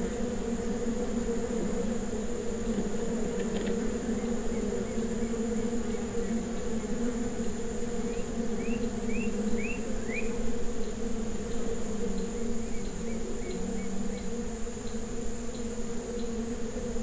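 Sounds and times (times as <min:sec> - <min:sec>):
flies buzzing: 0:00.0 - 0:17.0
high insect trill: 0:00.0 - 0:17.0.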